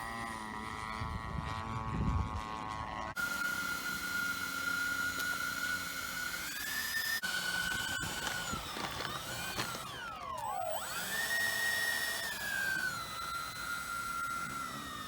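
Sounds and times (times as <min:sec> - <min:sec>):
electric ducted fans whining: 0:00.0 - 0:15.0.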